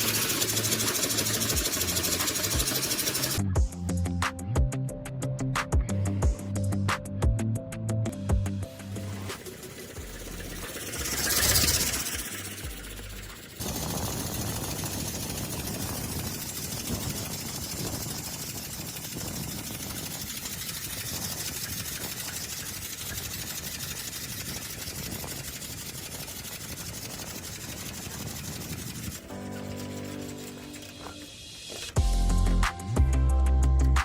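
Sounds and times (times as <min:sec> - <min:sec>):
air hissing: 0:00.0 - 0:03.4, 0:08.6 - 0:32.9
compressed-air motor chugging: 0:00.0 - 0:03.9, 0:08.1 - 0:33.0.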